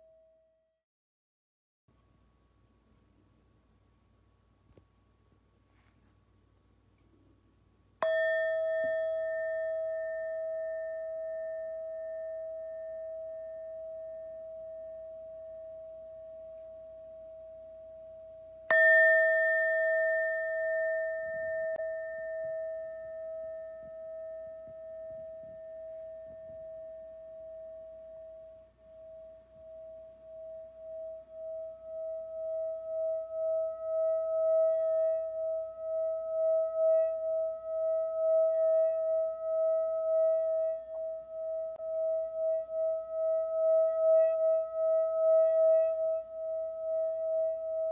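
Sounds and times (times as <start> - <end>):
singing bowl rim rubbed: 8.0 - 47.9
singing bowl ringing: 8.0 - 47.9.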